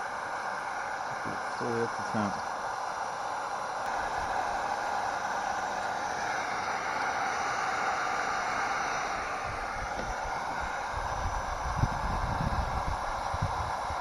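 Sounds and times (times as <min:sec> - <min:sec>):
heat gun hissing: 0:00.0 - 0:14.0.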